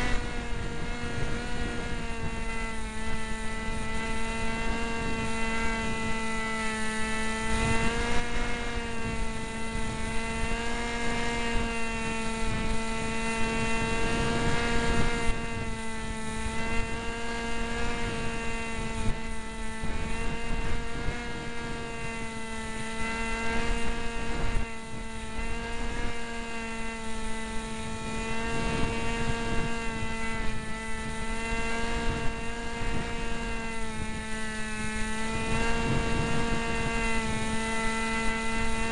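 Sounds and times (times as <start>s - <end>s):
electric motor and propeller whine: 0.0s - 38.9s
wind buffeting microphone: 0.0s - 38.9s.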